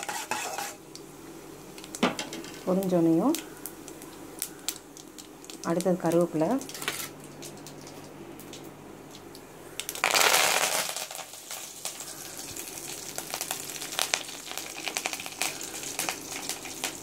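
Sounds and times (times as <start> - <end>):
spices sizzling in hot oil: 0.0 - 8.6, 9.6 - 17.0.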